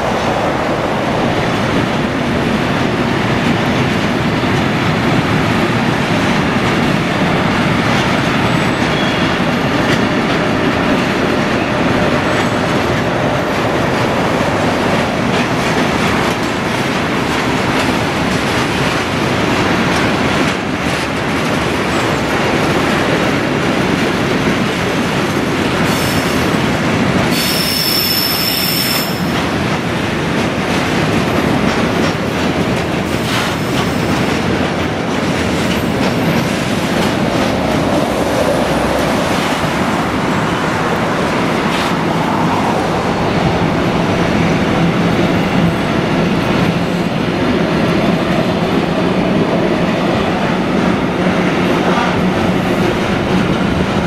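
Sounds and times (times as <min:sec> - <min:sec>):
freight wagons rumbling on rails: 0:00.0 - 0:54.0.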